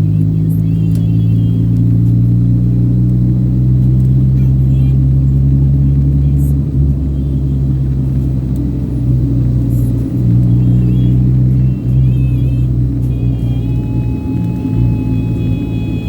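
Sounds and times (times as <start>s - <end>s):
bass-heavy music from car stereo: 0.0s - 16.0s
car rumbling on road: 0.0s - 16.0s.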